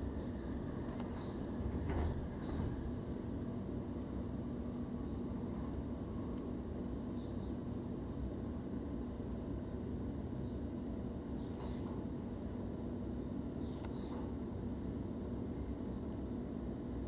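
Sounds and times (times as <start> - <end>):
faint steady hum: 0.0 - 17.0
train running rumble: 0.0 - 17.0.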